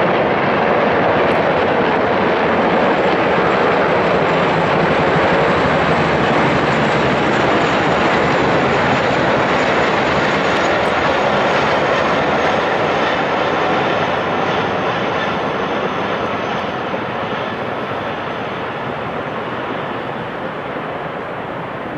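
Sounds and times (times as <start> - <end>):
helicopters flying over: 0.0 - 21.9.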